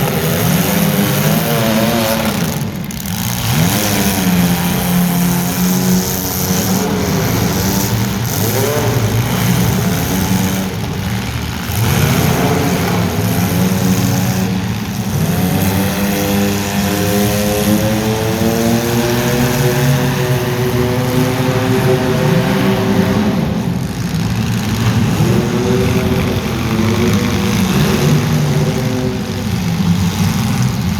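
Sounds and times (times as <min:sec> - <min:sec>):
vehicle engines revving: 0:00.0 - 0:30.9.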